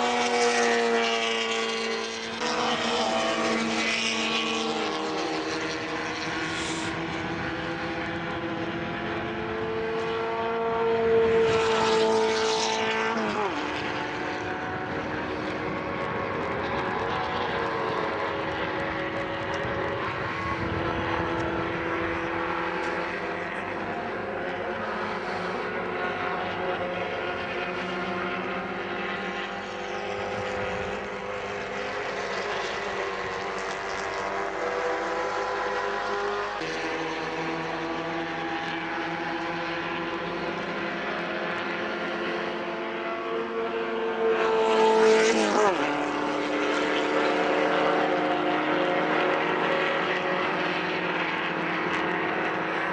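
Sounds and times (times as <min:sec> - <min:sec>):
race car engines at high revs: 0:00.0 - 0:52.9.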